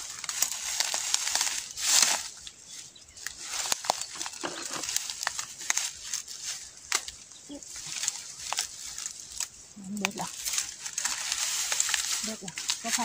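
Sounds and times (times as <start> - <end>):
twigs snapping: 0.0 - 2.6, 3.2 - 13.0
bamboo leaves rustling: 0.0 - 13.0.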